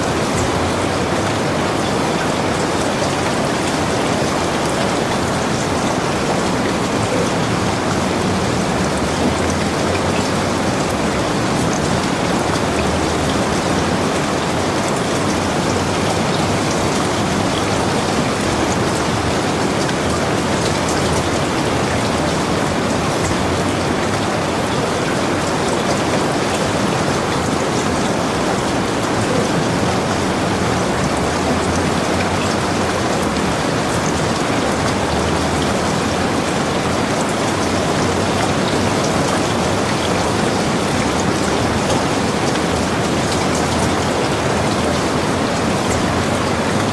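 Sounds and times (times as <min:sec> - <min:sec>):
heavy rain hissing: 0:00.0 - 0:46.9
raindrops pattering on surfaces: 0:00.0 - 0:46.9.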